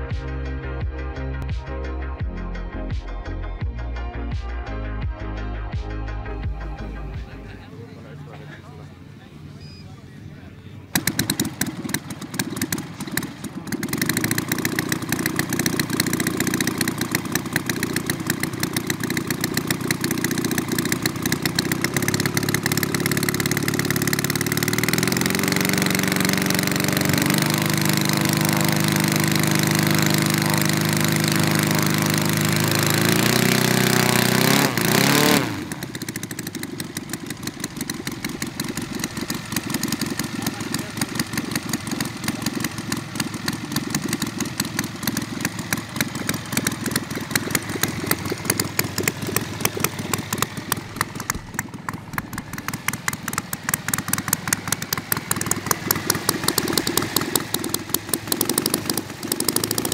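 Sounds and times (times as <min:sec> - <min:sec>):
model plane engine running: 0:07.2 - 0:59.9.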